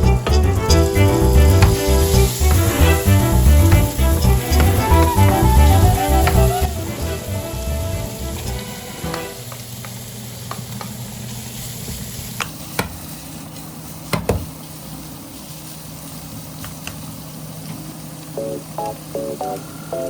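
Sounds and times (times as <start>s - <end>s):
food sizzling in a frying pan: 0.6s - 18.4s.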